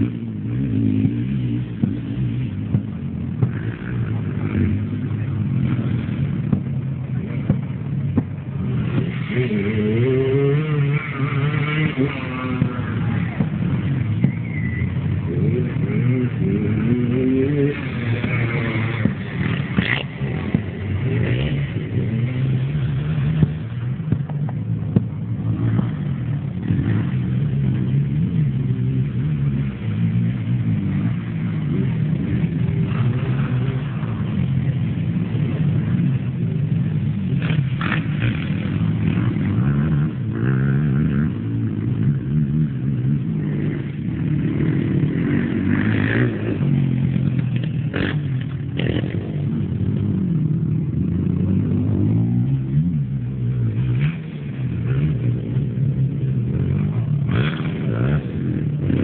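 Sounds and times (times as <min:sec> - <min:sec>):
racing engines revving: 0:00.0 - 0:59.0.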